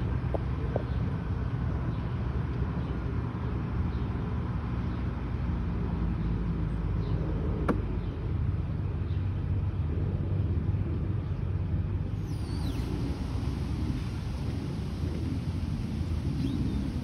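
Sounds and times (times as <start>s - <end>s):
motor vehicle rumble: 0.0s - 17.0s.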